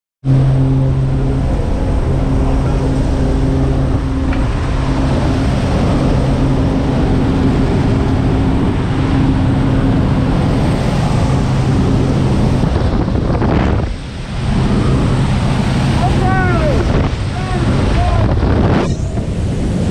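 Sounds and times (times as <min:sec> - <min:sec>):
plane engine and propeller hum: 0:00.2 - 0:19.9
wind rushing through open door: 0:00.3 - 0:19.9.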